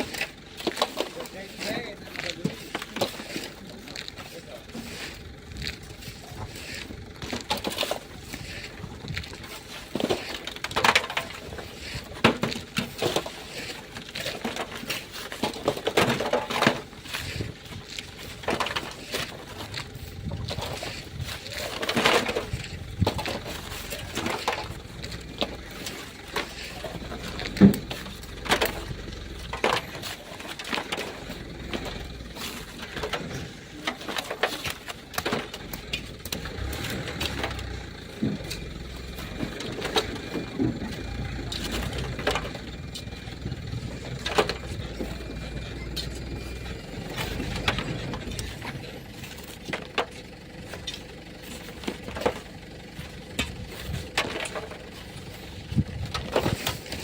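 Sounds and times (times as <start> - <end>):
shovel scraping gravel: 0.0 - 57.0.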